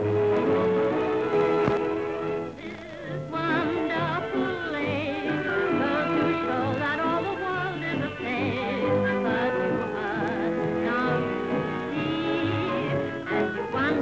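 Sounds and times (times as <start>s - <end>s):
woman singing with vibrato: 2.6s - 14.0s.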